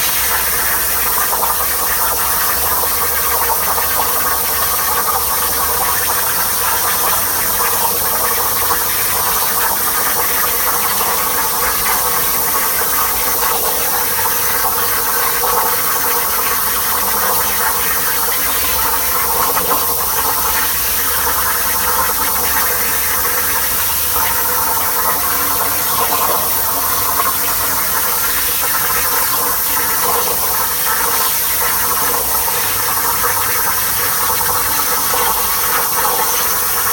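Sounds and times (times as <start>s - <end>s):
plasma cutter loud hiss: 0.0s - 36.9s.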